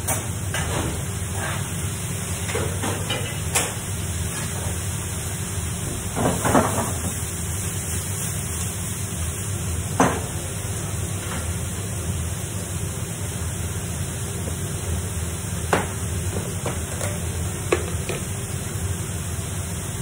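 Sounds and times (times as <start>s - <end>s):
food sizzling on a griddle: 1.2s - 20.0s.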